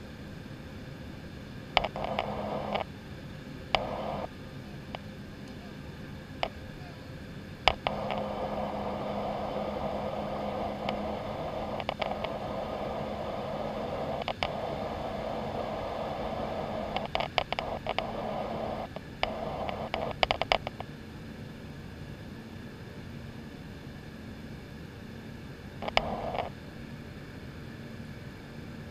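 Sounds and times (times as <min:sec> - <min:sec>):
jet engine drone: 0:00.0 - 0:28.9.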